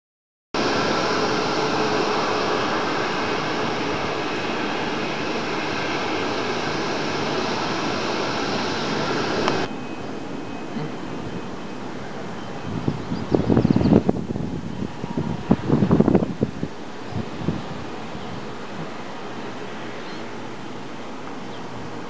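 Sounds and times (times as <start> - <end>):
airliner jet engine roaring: 0.6 - 22.0.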